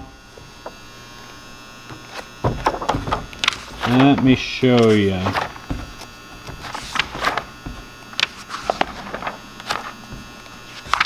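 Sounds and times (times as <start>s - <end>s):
faint electrical hum: 0.0s - 11.0s
paper pages rustling: 0.0s - 11.0s.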